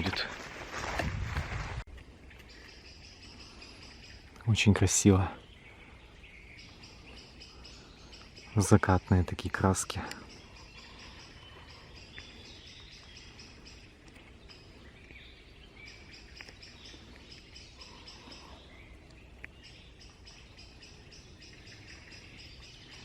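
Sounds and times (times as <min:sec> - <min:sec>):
birds singing: 0:00.0 - 0:23.0.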